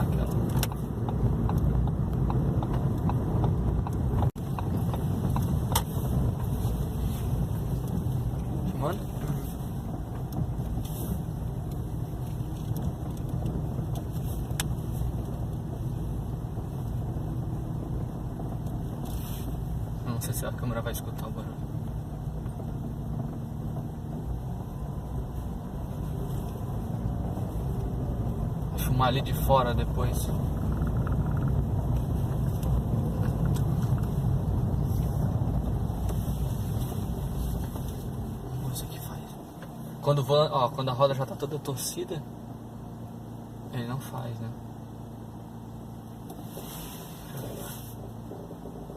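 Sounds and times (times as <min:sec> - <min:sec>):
car cabin engine and road rumble: 0:00.0 - 0:48.9.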